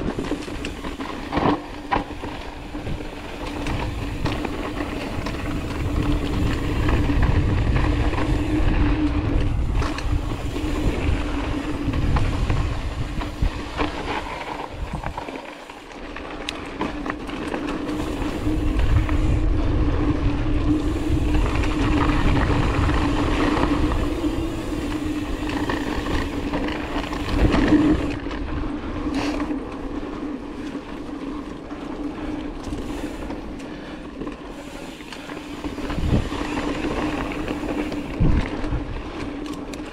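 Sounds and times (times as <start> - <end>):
bike rattling over bumps: 0.0 - 39.9
bike tyres rolling on dirt: 0.0 - 39.9.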